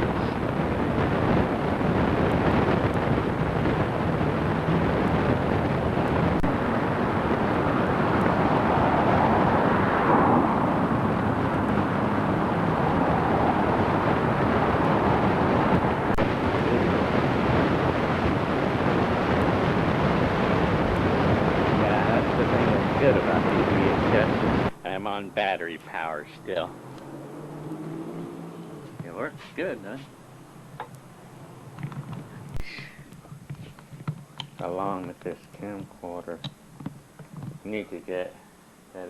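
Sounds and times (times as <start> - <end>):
wind noise on microphone: 0.0 - 25.1, 31.6 - 37.7.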